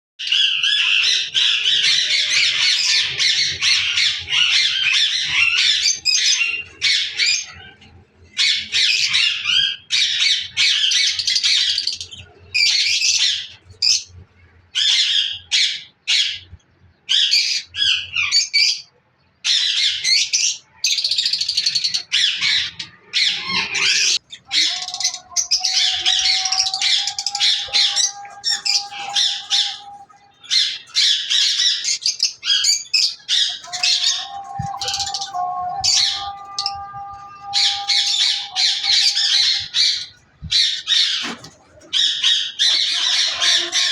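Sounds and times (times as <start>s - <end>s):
lovebirds chattering: 0.2s - 14.2s, 19.5s - 43.9s.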